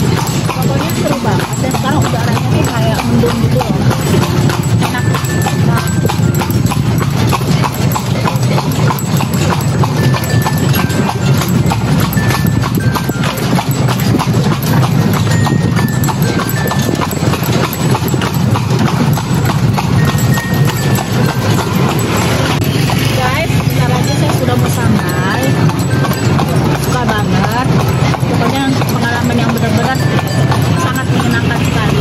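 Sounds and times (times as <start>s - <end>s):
horse hooves clip-clopping on road: 0.0s - 32.0s.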